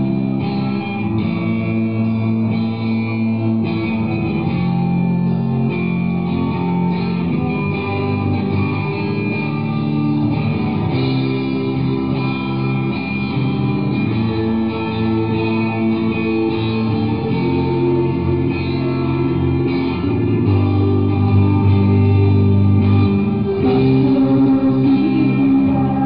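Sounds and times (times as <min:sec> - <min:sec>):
bass guitar: 0:00.0 - 0:26.0
electric guitars: 0:00.0 - 0:26.0.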